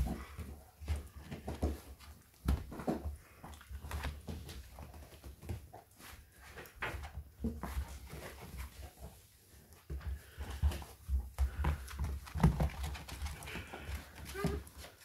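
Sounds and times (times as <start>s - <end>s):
puppies scuffling in paper: 0.2s - 15.0s.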